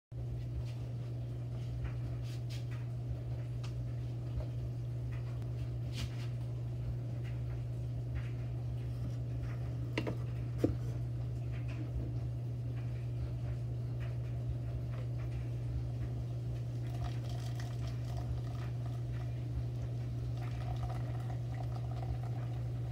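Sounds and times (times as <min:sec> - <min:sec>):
low steady hum: 0:00.2 - 0:22.9.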